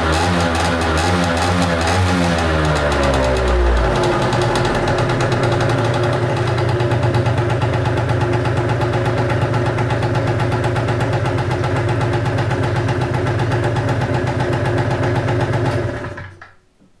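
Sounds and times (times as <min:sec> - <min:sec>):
scooter engine idling: 0:00.0 - 0:16.4.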